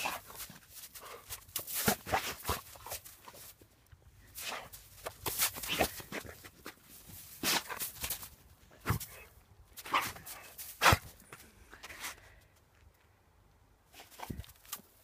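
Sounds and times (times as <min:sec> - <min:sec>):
paws crunching through snow: 0:00.0 - 0:12.4.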